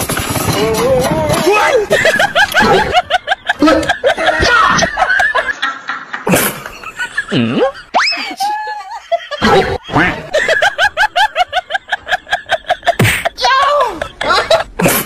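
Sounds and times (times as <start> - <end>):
laughter: 1.7 - 15.0.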